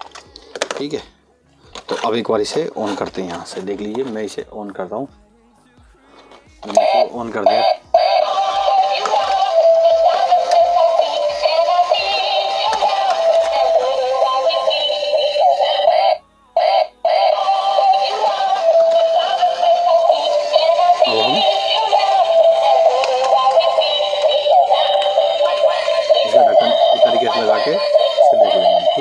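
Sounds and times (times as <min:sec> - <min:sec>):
toy playing electronic children's song: 0:05.8 - 0:29.0.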